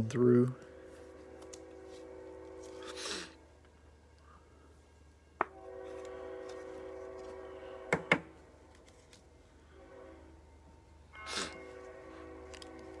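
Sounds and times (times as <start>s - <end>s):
train horn chord: 0.0s - 8.7s, 9.4s - 13.0s.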